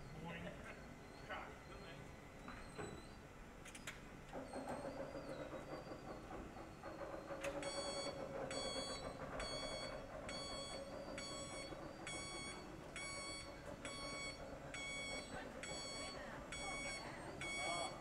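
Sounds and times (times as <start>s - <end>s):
electronic warning beeps: 0.0s - 18.0s.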